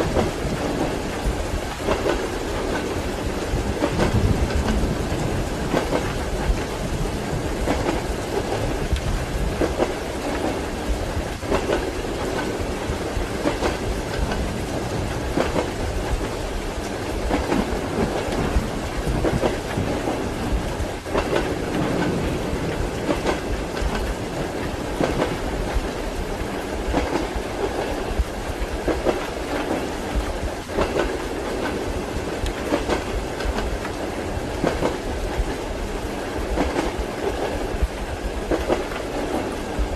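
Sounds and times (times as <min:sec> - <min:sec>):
train wheels clattering over rail joints: 0:00.0 - 0:39.8
rain: 0:00.0 - 0:39.9
train rolling rumble: 0:00.0 - 0:39.9.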